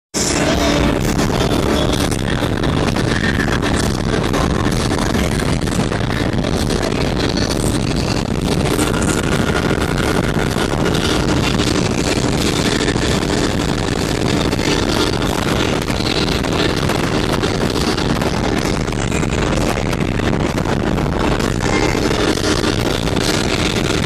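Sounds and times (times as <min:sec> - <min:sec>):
speedboat engine running: 0:00.1 - 0:24.0
wind buffeting microphone: 0:00.2 - 0:24.0.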